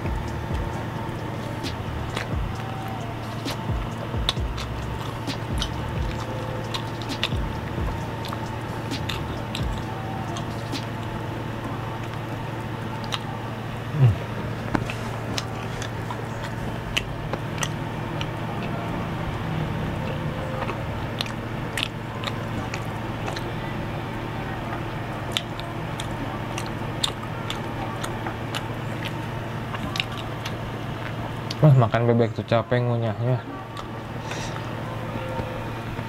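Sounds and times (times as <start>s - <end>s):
chewing with mouth clicks: 0.0s - 11.0s, 11.6s - 13.3s, 13.9s - 23.7s, 24.7s - 31.6s, 33.6s - 36.0s
steady low hum: 0.0s - 36.0s.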